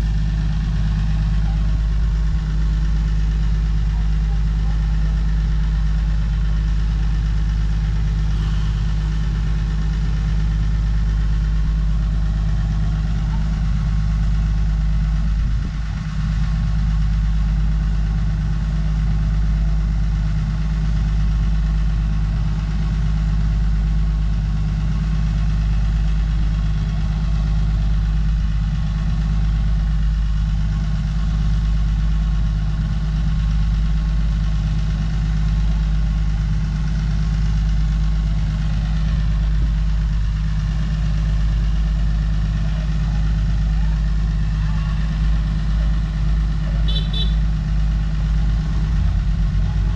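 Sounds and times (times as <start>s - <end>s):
diesel excavator engine running: 0.0s - 49.9s.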